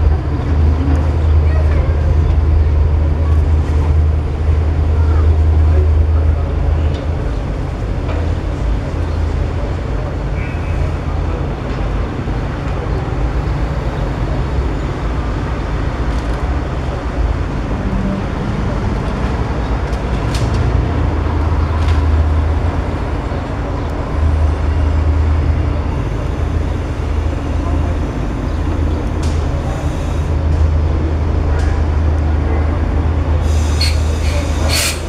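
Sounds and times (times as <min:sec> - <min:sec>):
tram rumbling on rails: 0:00.0 - 0:35.0.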